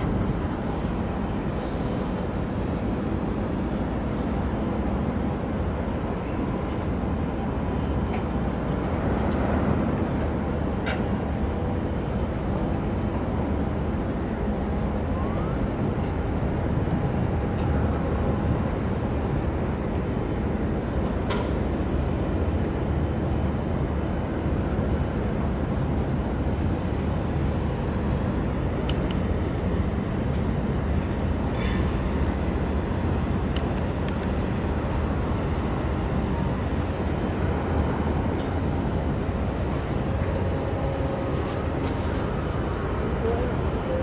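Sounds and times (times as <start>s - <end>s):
ship engine drone: 0.0s - 44.0s.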